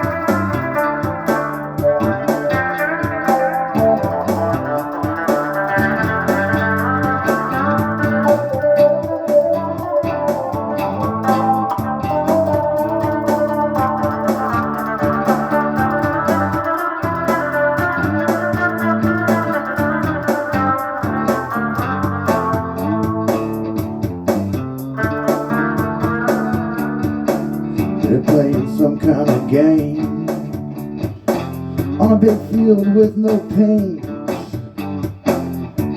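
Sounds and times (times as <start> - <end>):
organ chords: 0.0 - 34.3
guitar: 0.0 - 35.9
steady drum beat: 0.0 - 35.9.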